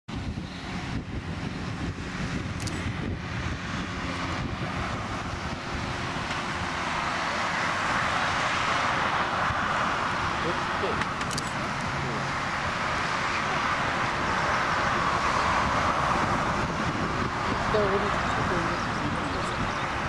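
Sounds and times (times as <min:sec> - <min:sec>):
jet engines at takeoff power: 0:00.1 - 0:20.0.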